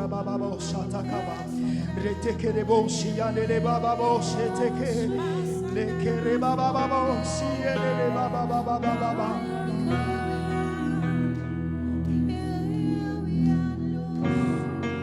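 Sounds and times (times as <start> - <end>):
held keyboard chords: 0.0 - 15.0
person singing softly: 0.0 - 15.0.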